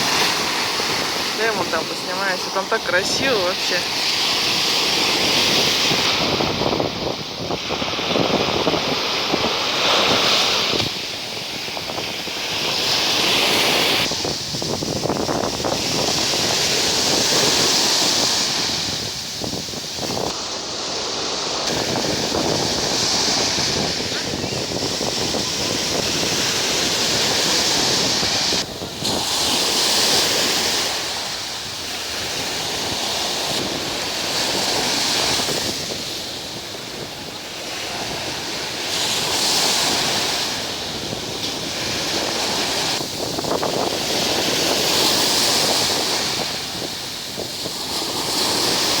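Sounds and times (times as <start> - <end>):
wind buffeting microphone: 0.0 - 20.4, 21.1 - 49.0
surf breaking on sandy beach: 0.0 - 49.0.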